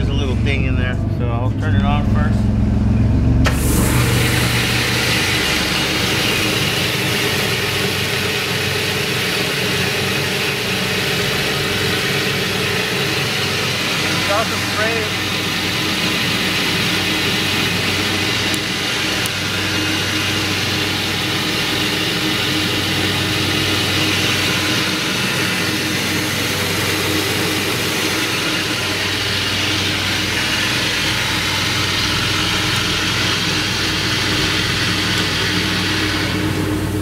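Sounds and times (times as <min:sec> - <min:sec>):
motor hum: 0:00.0 - 0:37.0
sanding belts hissing: 0:03.6 - 0:37.0.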